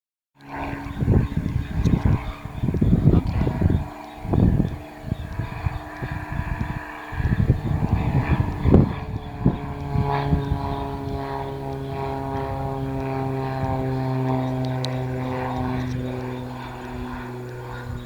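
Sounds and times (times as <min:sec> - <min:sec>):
propeller airplane engine droning: 0:00.4 - 0:18.0
wind noise on microphone: 0:00.4 - 0:18.0.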